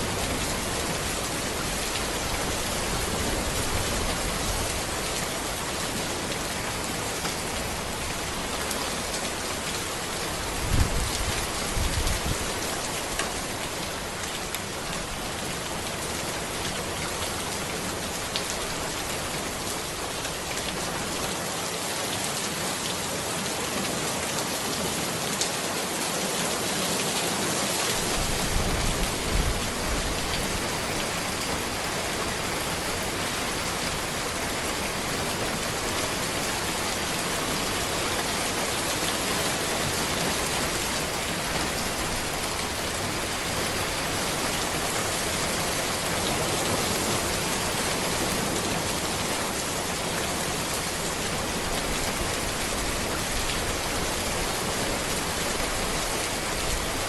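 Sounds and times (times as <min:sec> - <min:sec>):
rain falling on a road: 0:00.0 - 0:57.0.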